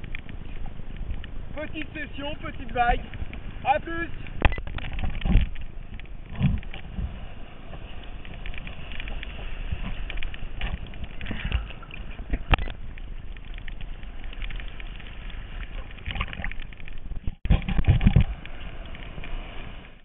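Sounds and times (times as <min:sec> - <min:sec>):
water splashing against camera: 0:00.0 - 0:20.0.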